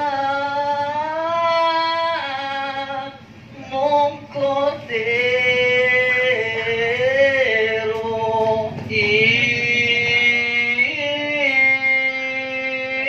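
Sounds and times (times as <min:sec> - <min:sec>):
person singing long notes: 0:00.0 - 0:13.0.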